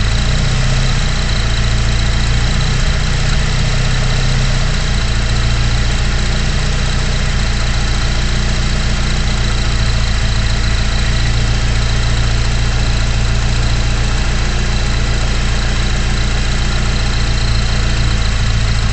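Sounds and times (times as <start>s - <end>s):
turbocharged car engine idling: 0.0s - 18.9s.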